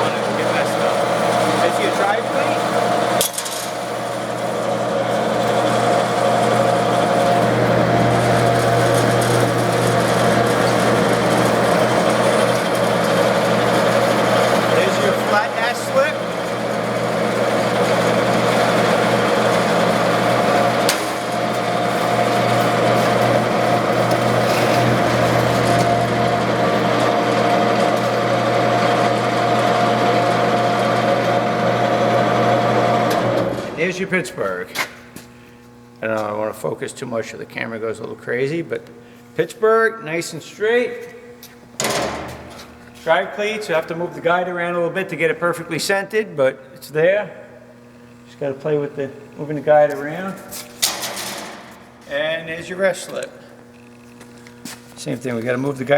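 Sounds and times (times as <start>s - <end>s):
machine motor humming: 0.0s - 39.4s, 40.7s - 55.9s.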